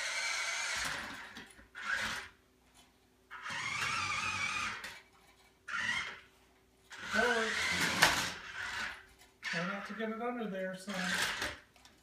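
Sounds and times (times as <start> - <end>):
toy truck electric motor whining: 0.0 - 2.4, 3.3 - 10.0, 10.9 - 11.7.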